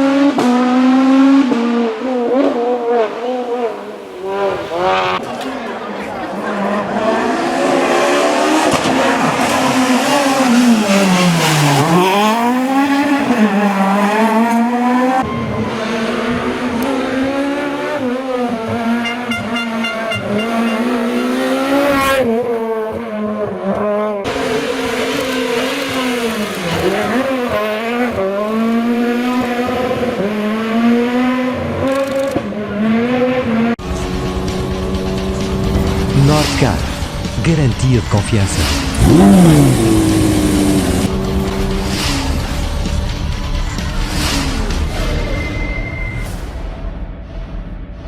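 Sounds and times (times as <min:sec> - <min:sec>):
rally car engines revving: 0:00.0 - 0:46.3.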